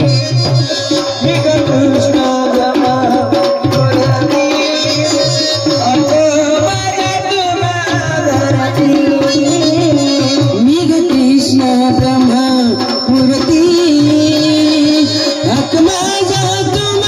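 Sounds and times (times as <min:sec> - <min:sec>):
hand drum rhythm: 0:00.0 - 0:17.0.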